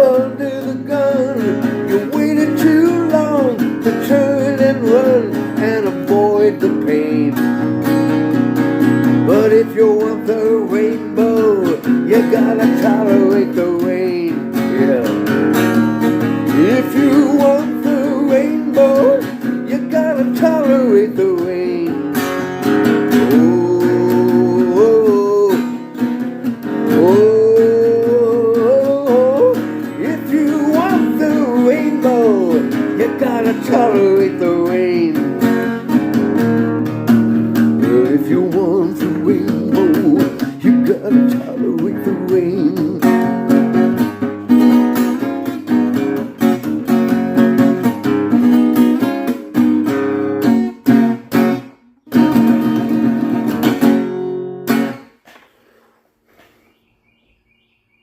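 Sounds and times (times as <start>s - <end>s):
sliding lead melody: 0.0s - 55.0s
acoustic guitar strumming: 0.0s - 57.5s.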